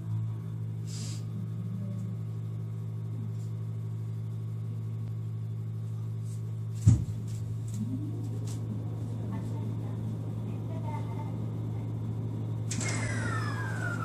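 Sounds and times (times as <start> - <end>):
train cabin low hum: 0.0 - 14.0.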